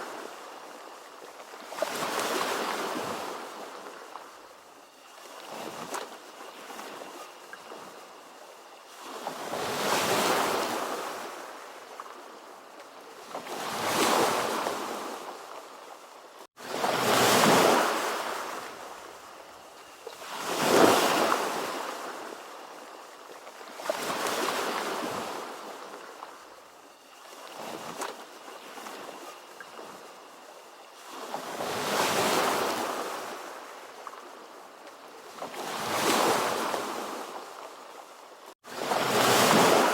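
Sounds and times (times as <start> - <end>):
ocean waves breaking: 0.0 - 4.4, 5.0 - 12.4, 13.1 - 19.6, 20.2 - 26.6, 27.2 - 34.4, 38.7 - 39.9.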